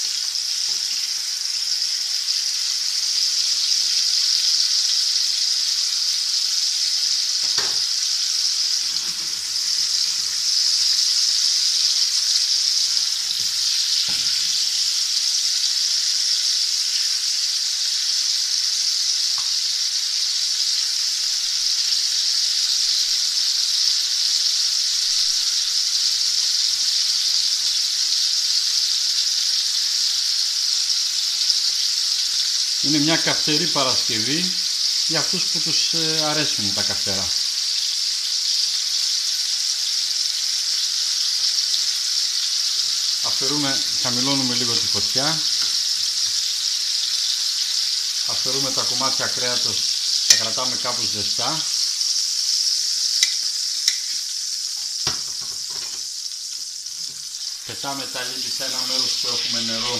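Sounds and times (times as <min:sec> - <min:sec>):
chicken frying in hot oil: 0:00.0 - 0:59.9.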